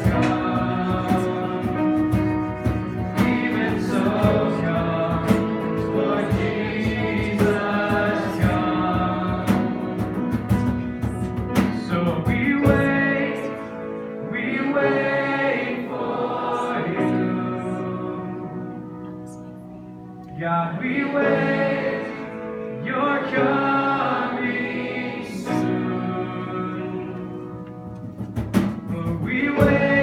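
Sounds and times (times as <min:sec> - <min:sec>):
voices singing: 0:00.0 - 0:18.9, 0:20.2 - 0:27.8, 0:28.9 - 0:30.0
band playing worship music: 0:00.0 - 0:30.0.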